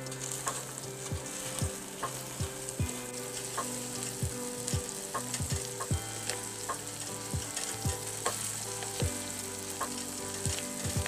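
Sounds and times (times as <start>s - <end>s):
pancake sizzling on a griddle: 0.0s - 11.0s.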